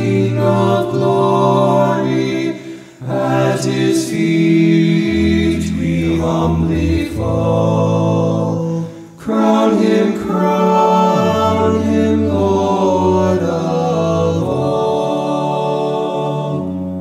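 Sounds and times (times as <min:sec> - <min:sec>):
male group singing in harmony: 0:00.0 - 0:17.0.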